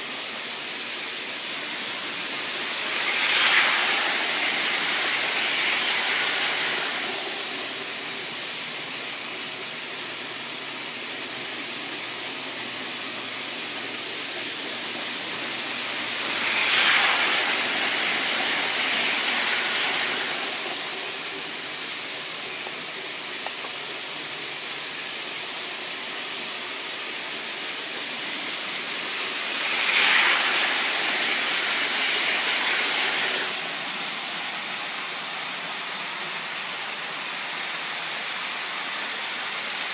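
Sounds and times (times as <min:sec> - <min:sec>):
model train wheels on rails: 0:00.0 - 0:39.9.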